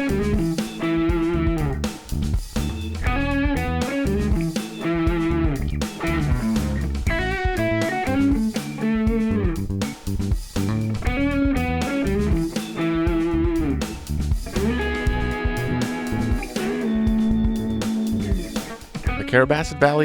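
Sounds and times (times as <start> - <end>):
electric guitar rock music: 0.0 - 20.0.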